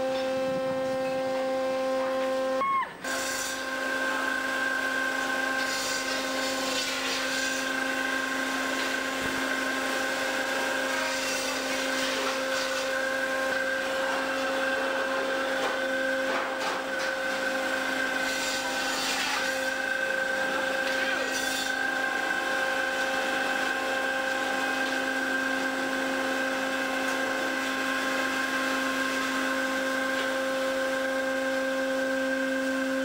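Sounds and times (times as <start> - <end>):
fish-processing machinery drone: 0.0 - 33.0.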